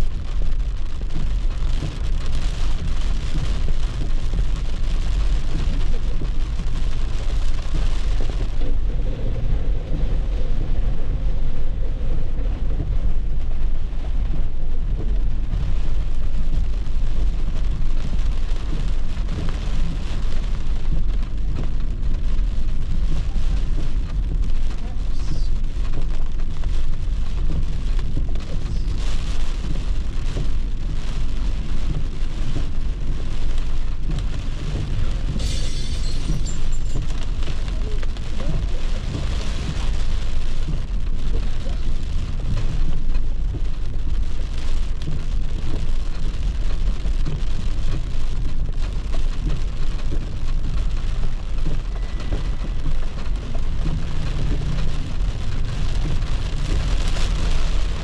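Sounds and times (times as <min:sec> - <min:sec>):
car driving rumble: 0:00.0 - 0:58.0
rain on car windshield: 0:00.0 - 0:58.0.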